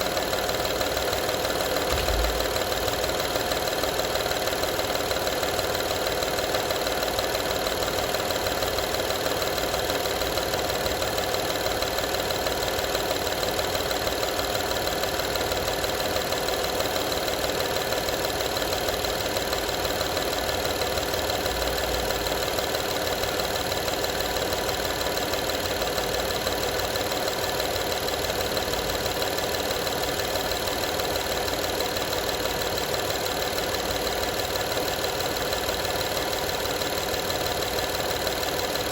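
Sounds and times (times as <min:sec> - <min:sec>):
engine running with a rattle: 0:00.0 - 0:38.9.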